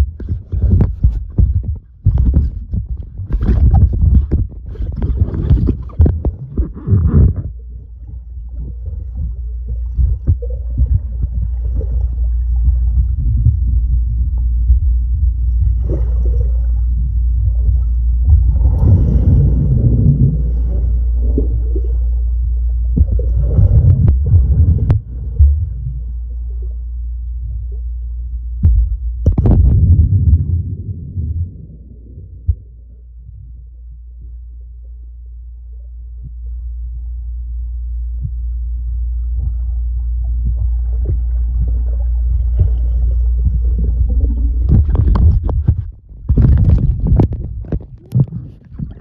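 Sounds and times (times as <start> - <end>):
water bubbling and churning: 0.0 - 28.0, 28.6 - 33.6, 38.3 - 49.0
muffled underwater rumble: 0.0 - 49.0.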